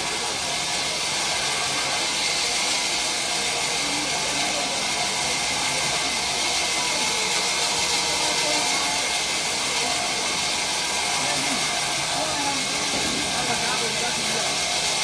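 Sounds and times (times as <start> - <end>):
band saw hissing: 0.0 - 15.0.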